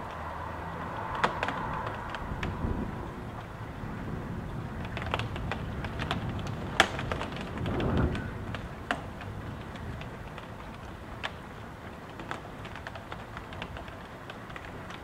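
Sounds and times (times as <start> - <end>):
gusting wind rumbling: 0.0 - 15.0
rain taps and drips on house: 0.0 - 15.0.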